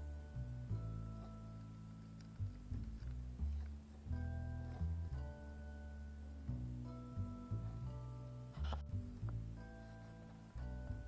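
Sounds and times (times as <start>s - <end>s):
instrumental music low held notes: 0.0s - 11.0s.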